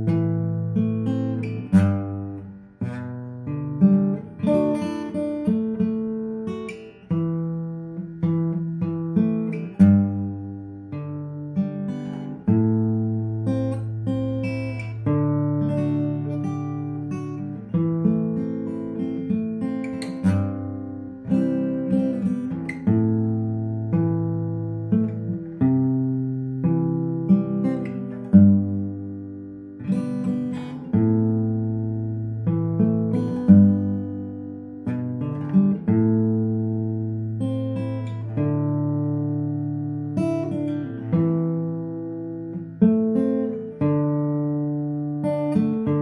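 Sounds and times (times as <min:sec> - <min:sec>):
acoustic guitar music: 0:00.0 - 0:46.0.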